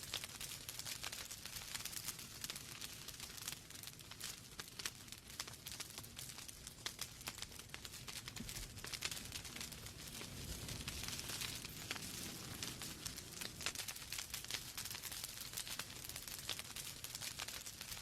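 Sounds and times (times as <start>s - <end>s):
flames hissing and rumbling: 0.0s - 18.0s
logs crackling and popping: 0.0s - 18.0s.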